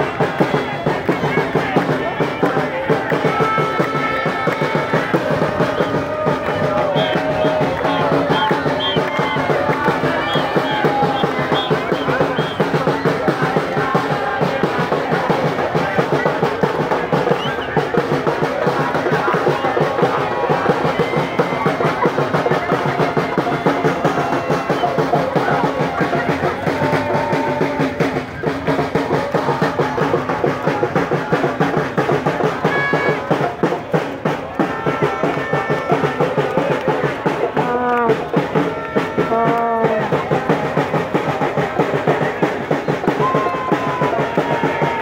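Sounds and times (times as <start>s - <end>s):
crowd singing and chanting: 0.0s - 45.0s
drums beating fast rhythm: 0.0s - 45.0s.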